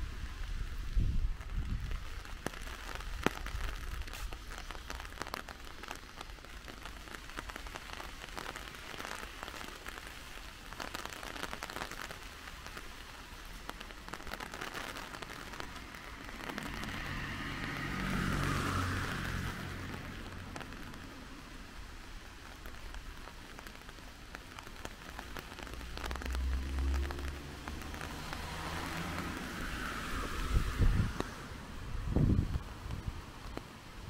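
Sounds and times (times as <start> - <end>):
steady rain: 0.0 - 34.0
raindrops ticking: 0.2 - 34.0.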